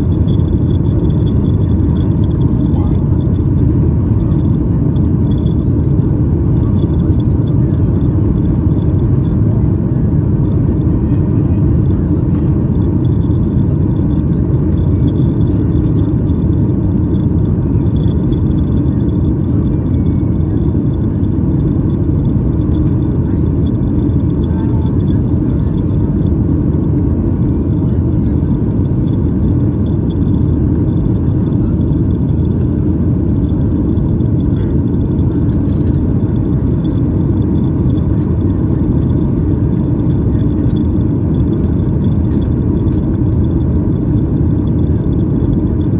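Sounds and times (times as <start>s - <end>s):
jet cabin engine roar: 0.0s - 45.9s.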